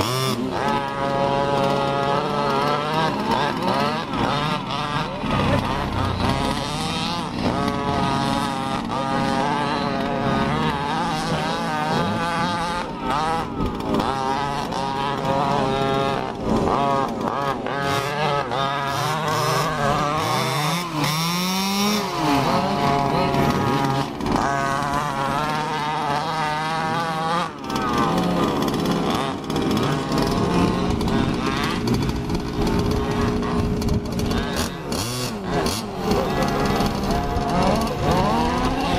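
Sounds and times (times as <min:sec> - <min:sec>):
engine revving sharply: 0:00.0 - 0:38.9
small engines buzzing: 0:00.0 - 0:38.9.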